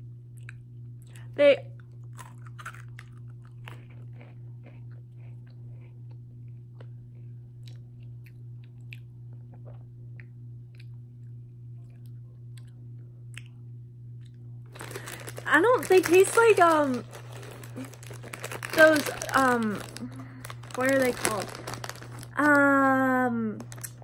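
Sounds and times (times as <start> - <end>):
steady low hum: 0.0 - 24.0
person chewing crunchy pretzels: 0.4 - 11.0, 14.2 - 22.7, 23.6 - 24.0.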